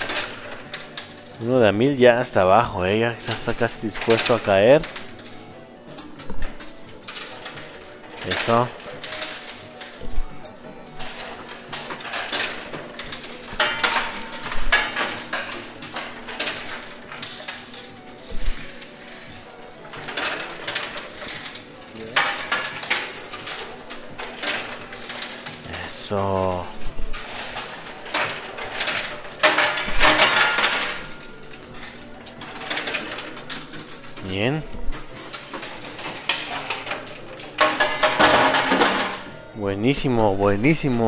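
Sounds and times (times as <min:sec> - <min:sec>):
coins clinking in coin pusher: 0:00.0 - 0:41.0.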